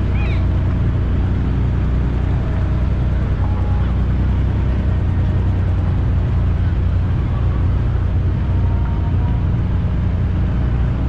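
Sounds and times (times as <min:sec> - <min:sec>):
vehicle engine running low: 0:00.0 - 0:11.0.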